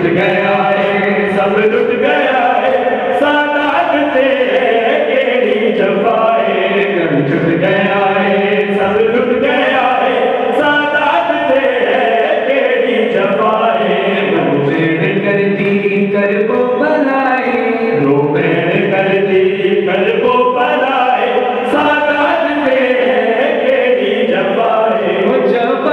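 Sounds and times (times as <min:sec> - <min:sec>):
man chanting a lament: 0:00.0 - 0:25.9.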